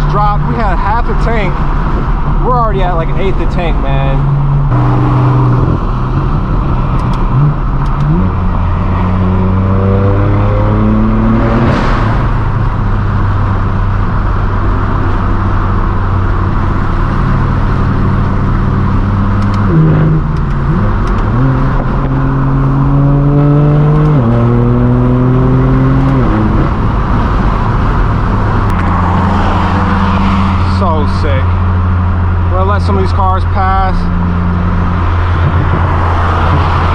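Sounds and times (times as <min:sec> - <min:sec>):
loud car engine accelerating: 0:00.0 - 0:36.9.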